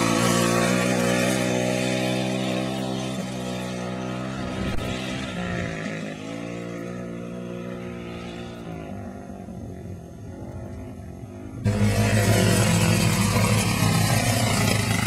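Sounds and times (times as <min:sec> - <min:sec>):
dirt bike engine running: 0:00.0 - 0:09.4, 0:10.4 - 0:15.0.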